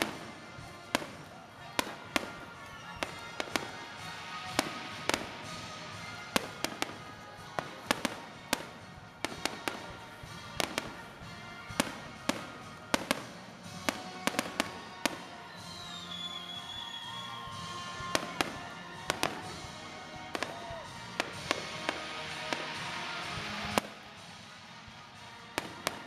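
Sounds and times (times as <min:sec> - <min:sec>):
fireworks bursting with sharp bangs: 0:00.0 - 0:26.0.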